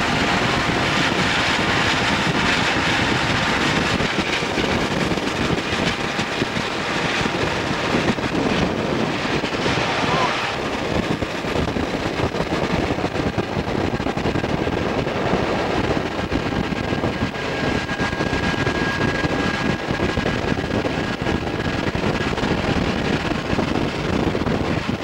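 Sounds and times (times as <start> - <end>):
locomotive engine noise: 0.0 - 25.0
wind rushing over microphone: 0.0 - 25.0.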